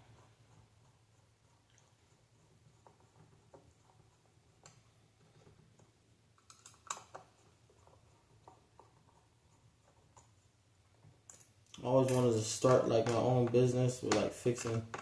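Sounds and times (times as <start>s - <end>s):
small parts and screws clicking: 0.2s - 13.3s.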